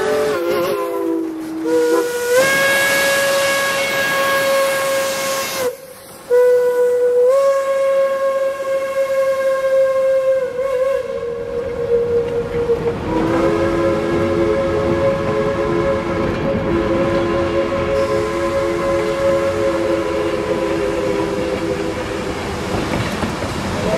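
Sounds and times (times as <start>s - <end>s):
steam whistle: 0.0s - 22.6s
rumble of rolling freight cars: 0.0s - 23.9s.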